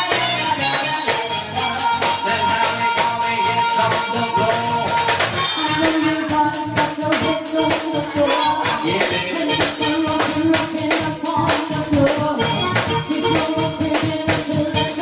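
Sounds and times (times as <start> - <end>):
electronic keyboards: 0.0 - 15.0
live band dance music: 0.0 - 15.0
steady beat: 0.0 - 15.0.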